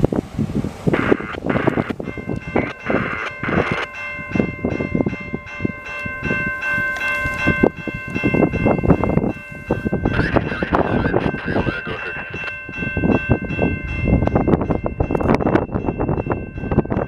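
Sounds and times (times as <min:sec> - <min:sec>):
level crossing warning bell: 0:01.0 - 0:17.0.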